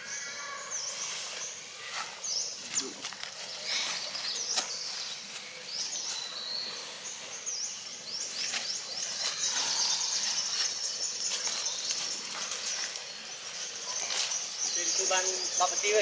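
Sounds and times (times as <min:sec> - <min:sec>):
insect hiss: 0:00.0 - 0:16.0.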